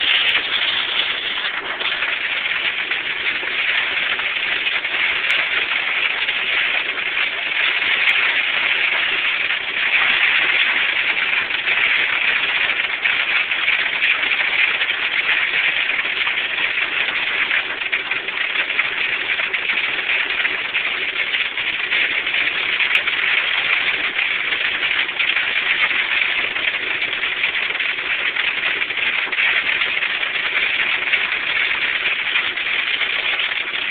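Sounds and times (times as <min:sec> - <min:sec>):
hail and rain falling hard: 0:00.0 - 0:33.9.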